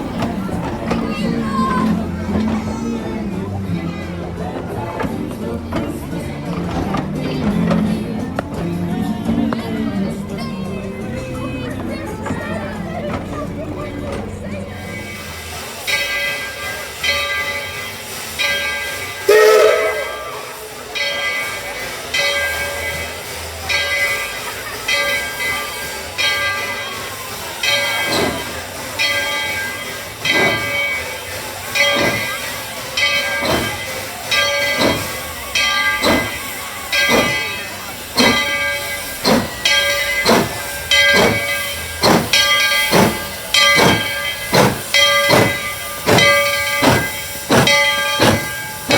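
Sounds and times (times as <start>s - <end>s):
steam hissing: 0.0s - 48.9s
steam locomotive chuffing: 0.0s - 48.9s.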